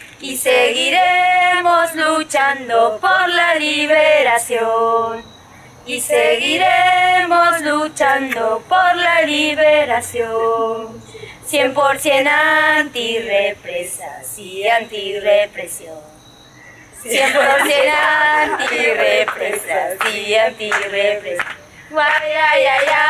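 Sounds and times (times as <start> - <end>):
group singing without accompaniment: 0.0 - 16.1, 16.9 - 23.0.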